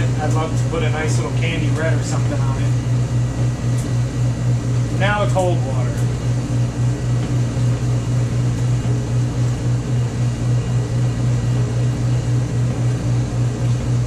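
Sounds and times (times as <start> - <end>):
mixer motor hum pulsing: 0.0 - 14.0.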